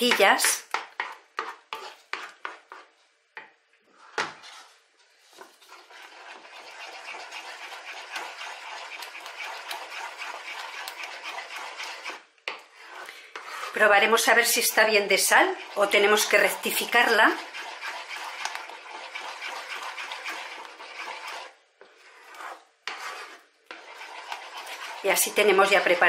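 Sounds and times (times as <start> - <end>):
spoon scraping around pan: 0.0 - 26.0.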